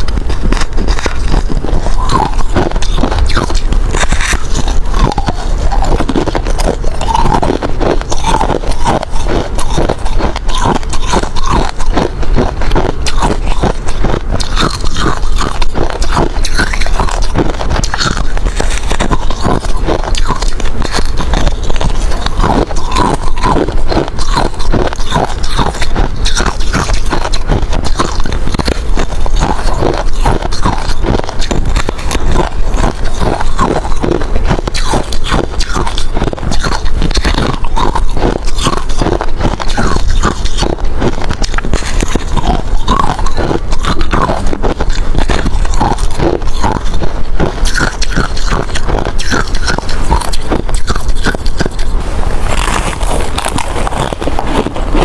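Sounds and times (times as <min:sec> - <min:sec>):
ice being crunched and chewed: 0:00.0 - 0:55.0.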